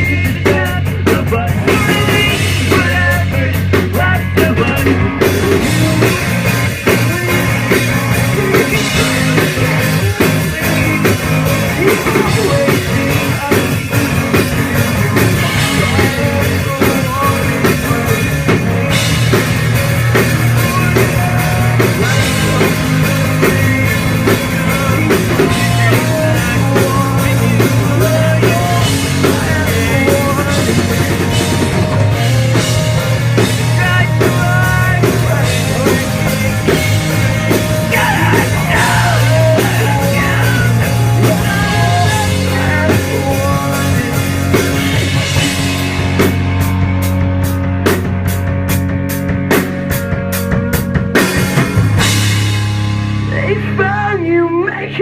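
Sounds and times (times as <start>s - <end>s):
drum kit: 0.0s - 54.8s
guitar: 0.0s - 55.0s
loud rock music: 0.0s - 55.0s.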